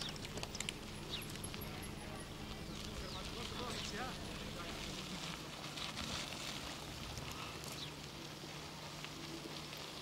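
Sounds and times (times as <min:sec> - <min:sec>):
low steady hum: 0:00.0 - 0:10.0
steady background hiss: 0:00.0 - 0:10.0.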